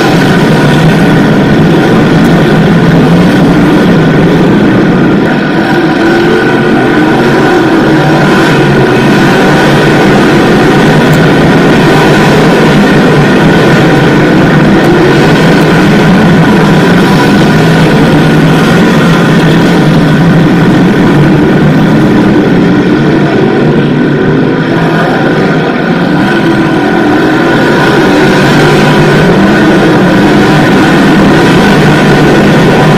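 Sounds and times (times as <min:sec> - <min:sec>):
racing car engines: 0:00.0 - 0:32.9.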